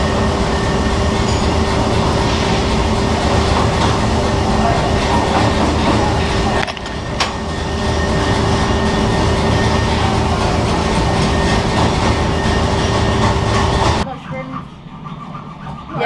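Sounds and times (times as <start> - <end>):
machine humming loudly: 0.0 - 14.1.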